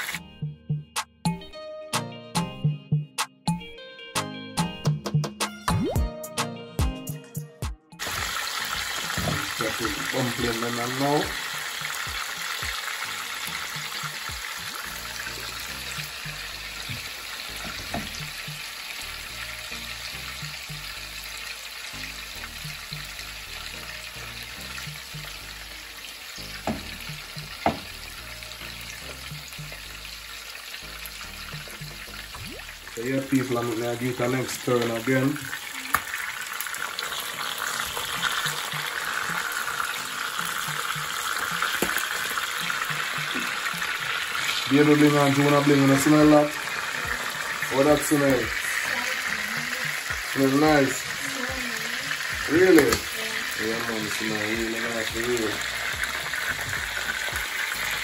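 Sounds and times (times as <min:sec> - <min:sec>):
fish frying in hot oil: 0:00.0 - 0:00.2, 0:08.0 - 0:58.0
background music with bass line: 0:00.0 - 0:33.8, 0:38.1 - 0:58.0.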